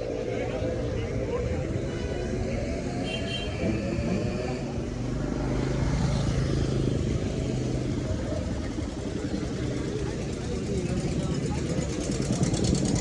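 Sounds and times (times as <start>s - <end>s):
motorcycle engines droning: 0.0s - 13.0s.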